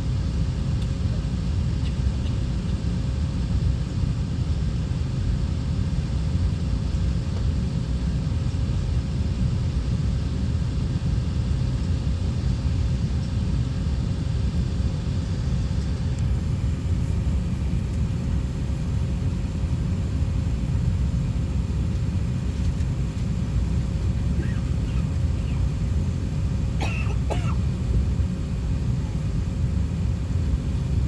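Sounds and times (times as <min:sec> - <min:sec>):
airliner cabin rumble: 0:00.0 - 0:31.0
faint steady hum: 0:00.0 - 0:31.0.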